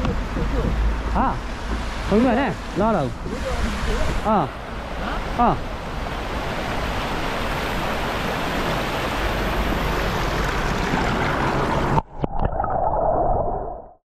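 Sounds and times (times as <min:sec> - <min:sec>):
water rushing: 0:00.0 - 0:13.8
muffled water rushing: 0:00.0 - 0:14.0.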